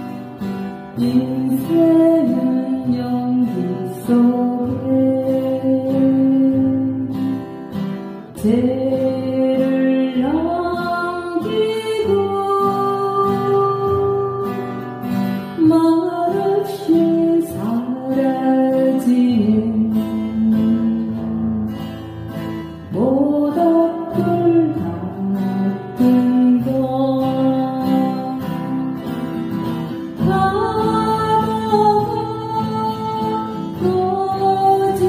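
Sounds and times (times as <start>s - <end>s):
strummed acoustic guitar: 0.0s - 35.0s
woman singing folk song: 0.0s - 35.0s.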